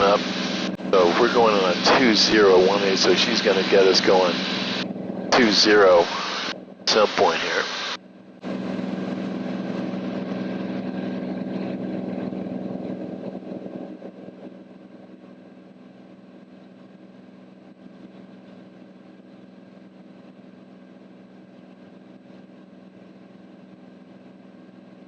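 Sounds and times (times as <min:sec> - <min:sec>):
aircraft engine and propeller drone: 0:00.0 - 0:25.0.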